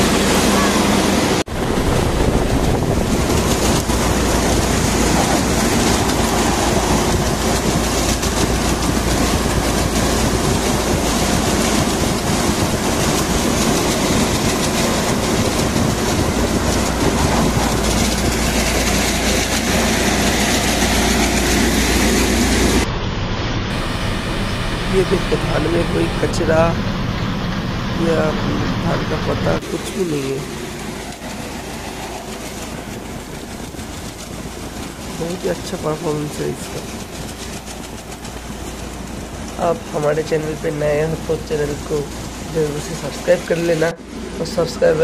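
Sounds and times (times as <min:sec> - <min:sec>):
thresher rattling: 0:00.0 - 0:22.8, 0:24.4 - 0:45.0
tractor engine under load: 0:00.0 - 0:45.0.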